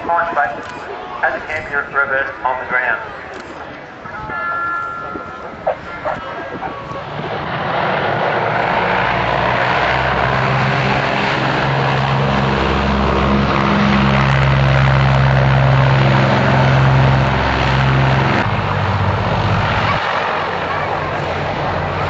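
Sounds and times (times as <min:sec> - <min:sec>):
propeller aircraft engine droning: 0:00.0 - 0:22.0.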